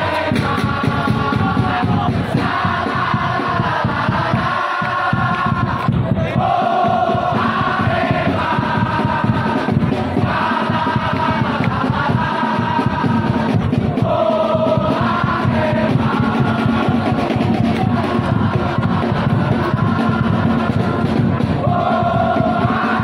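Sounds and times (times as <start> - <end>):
crowd singing a chant: 0.0 - 23.0.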